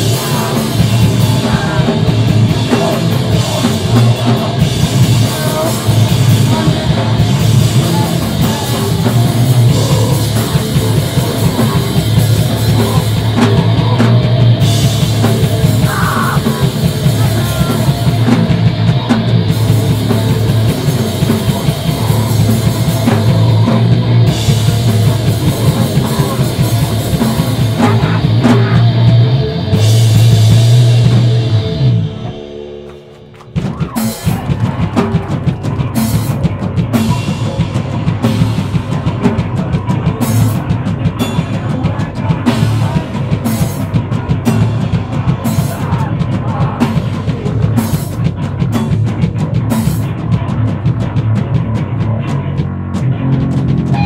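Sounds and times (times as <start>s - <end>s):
distorted electric guitars: 0.0s - 54.0s
drum and cymbal hits: 0.0s - 54.0s
drum kit: 0.0s - 54.0s.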